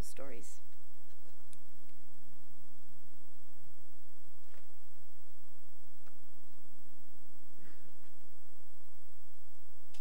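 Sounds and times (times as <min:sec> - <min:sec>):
electrical hum and hiss: 0:00.0 - 0:10.0.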